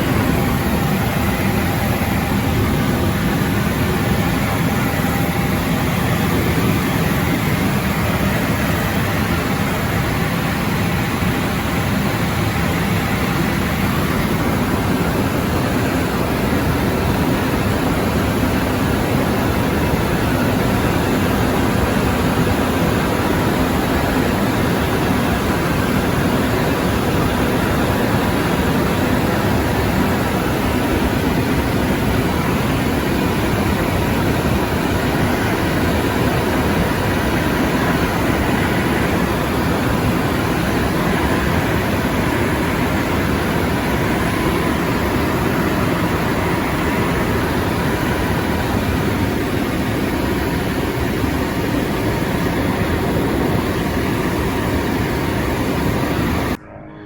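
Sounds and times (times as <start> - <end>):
airplane cockpit engine drone: 0.0 - 57.0.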